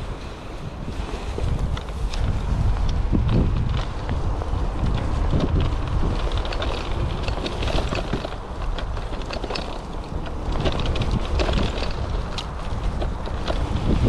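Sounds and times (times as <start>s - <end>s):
bike clattering over rough ground: 0.0s - 14.0s
wind buffeting microphone: 0.0s - 14.0s.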